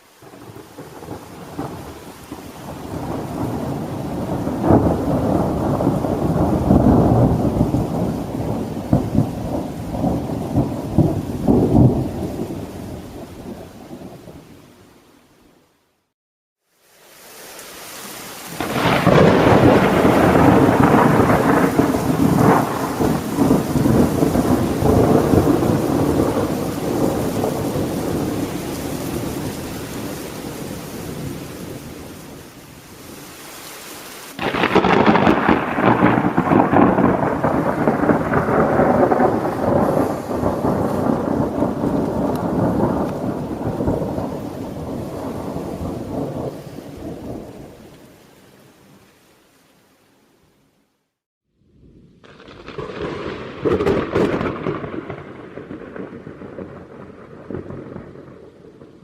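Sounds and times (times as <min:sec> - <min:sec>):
rolling thunder: 0:00.2 - 0:14.4, 0:18.6 - 0:32.3, 0:34.4 - 0:47.8, 0:51.6 - 0:59.0.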